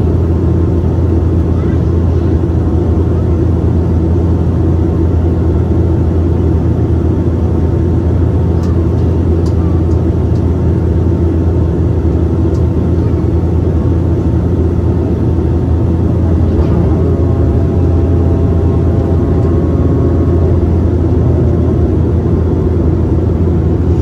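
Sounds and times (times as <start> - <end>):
aircraft cabin drone: 0.0 - 24.0.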